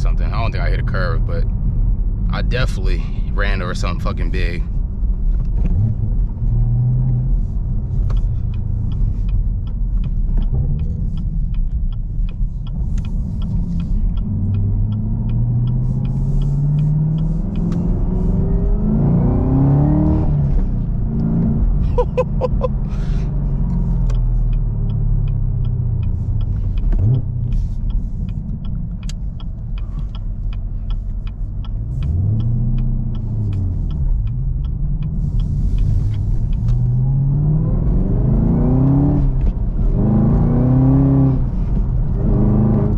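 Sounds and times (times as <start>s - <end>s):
car engine accelerating: 0.0s - 42.9s
light regular ticking: 0.2s - 42.9s.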